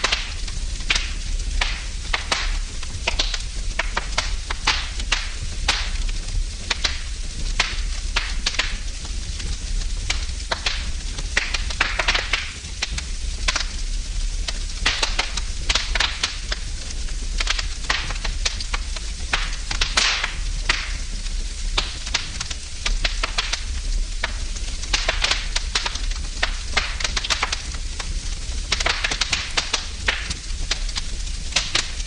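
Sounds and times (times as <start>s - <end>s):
fire hiss and low rumble: 0.0s - 32.0s
wood fire crackling and popping: 0.0s - 32.0s.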